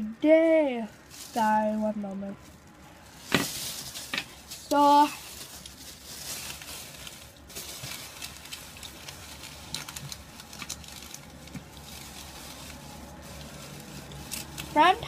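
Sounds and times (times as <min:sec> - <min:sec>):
plastic bag rustling and crinkling: 0:00.0 - 0:15.0.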